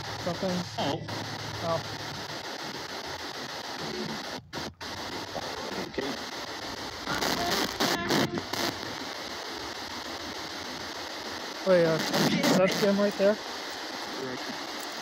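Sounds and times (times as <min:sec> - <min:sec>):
radio static hiss: 0:00.0 - 0:15.0
short snatches of radio sound: 0:00.0 - 0:15.0.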